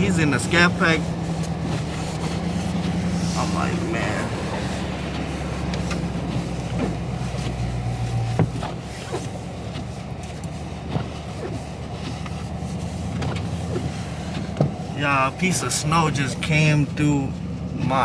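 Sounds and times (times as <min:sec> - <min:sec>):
car engine drone: 0:00.0 - 0:18.0.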